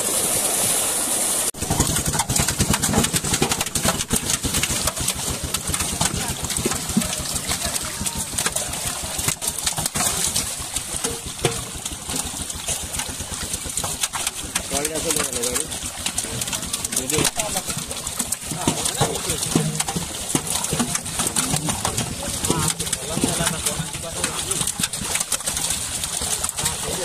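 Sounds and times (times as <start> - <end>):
fish splashing in net: 0.0 - 27.0.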